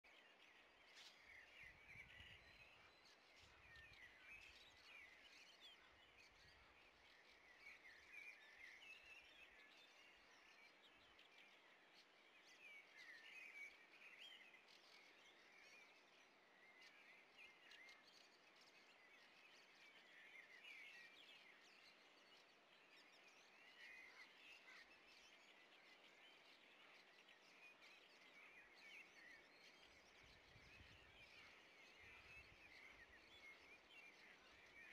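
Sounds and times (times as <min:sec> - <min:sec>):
distant songbirds chirping: 0:00.0 - 0:34.9.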